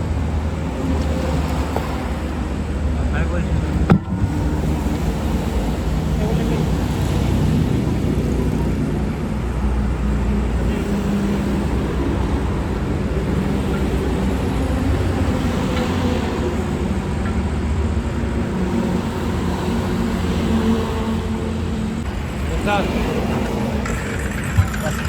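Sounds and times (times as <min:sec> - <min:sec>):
low motor drone: 0:00.0 - 0:25.0.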